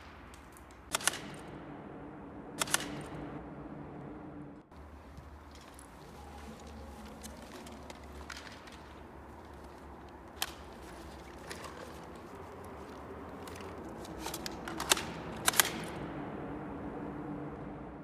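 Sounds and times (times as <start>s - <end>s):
faint background noise: 0.0s - 18.0s.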